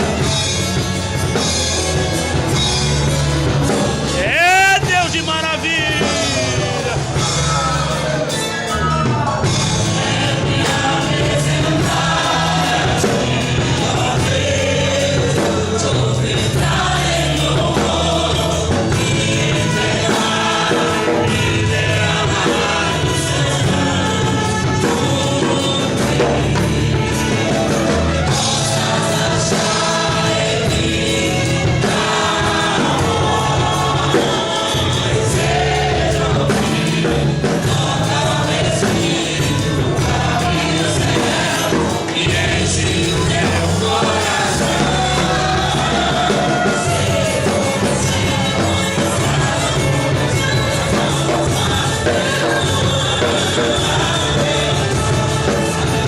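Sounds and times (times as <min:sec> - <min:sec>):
band with steady beat: 0:00.0 - 0:56.0
choir singing gospel music: 0:00.0 - 0:56.0.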